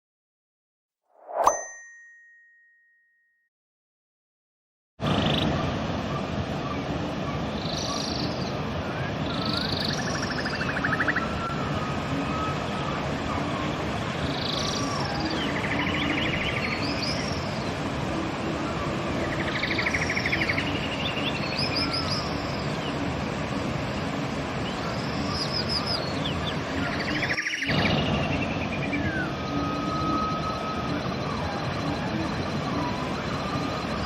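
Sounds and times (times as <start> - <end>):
river rushing: 5.1 - 34.0
songbirds singing: 5.1 - 34.0.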